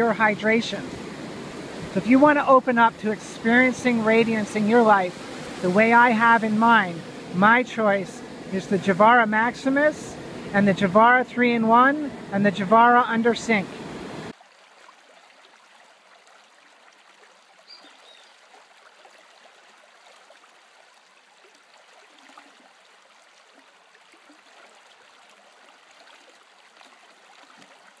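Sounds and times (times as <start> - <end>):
water trickling and bubbling: 0.0 - 28.0.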